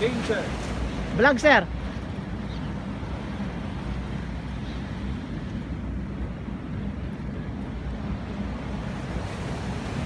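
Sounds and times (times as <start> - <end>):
river rushing: 0.0 - 10.0
wind buffeting microphone: 0.0 - 10.0.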